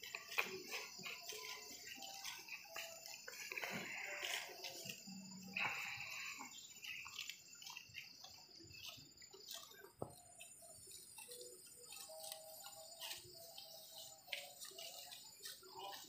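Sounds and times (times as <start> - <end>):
buffalo tearing and crunching grass: 0.0 - 16.0.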